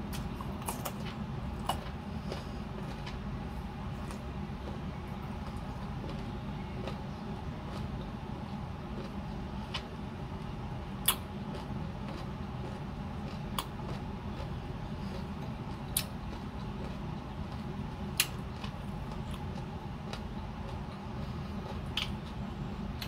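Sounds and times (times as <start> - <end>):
low room hum: 0.0 - 23.0
person chewing mango: 0.0 - 23.0.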